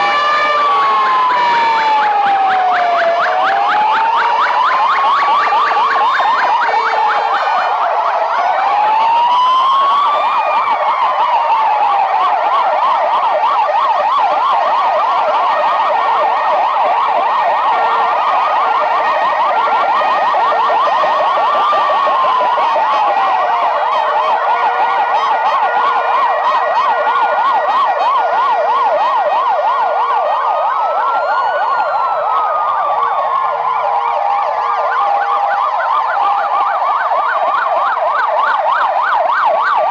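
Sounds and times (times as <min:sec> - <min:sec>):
two-note hi-lo siren: 0:00.0 - 0:37.7
wailing ambulance sirens: 0:00.0 - 0:39.9
yelping siren warbles: 0:00.0 - 0:39.9.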